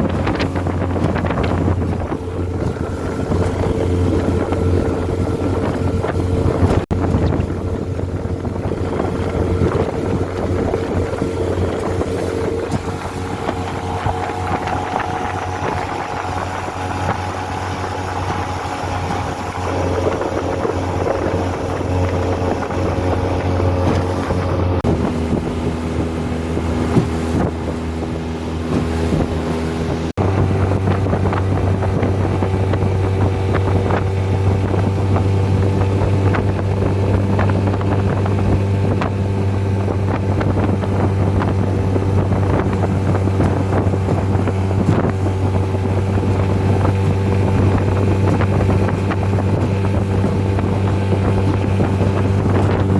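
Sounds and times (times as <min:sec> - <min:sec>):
outboard motor running: 0:00.0 - 0:52.9
wind on microphone: 0:00.0 - 0:52.9.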